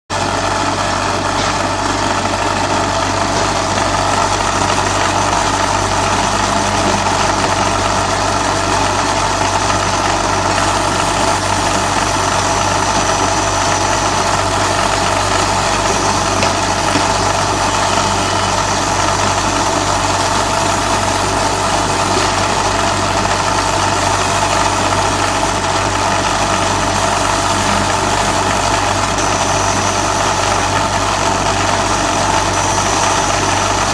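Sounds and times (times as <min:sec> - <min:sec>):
laser machine and blower fan: 0:00.2 - 0:33.9.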